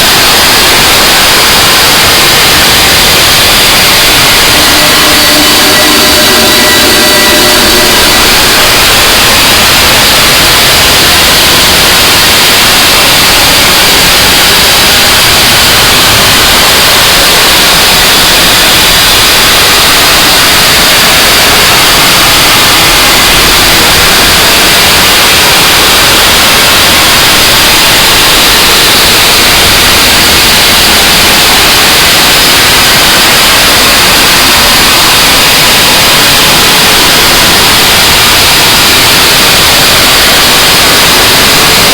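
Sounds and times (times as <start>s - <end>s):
harsh static noise music: 0.0s - 41.9s.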